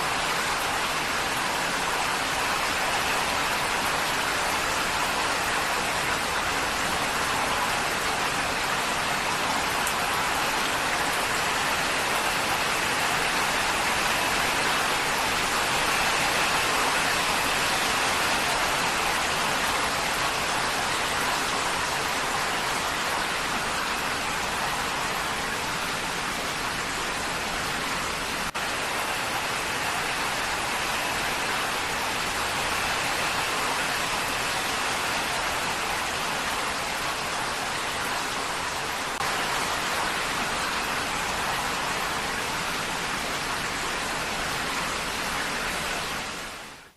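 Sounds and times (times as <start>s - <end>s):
heavy rain on a tin roof: 0.0s - 46.9s.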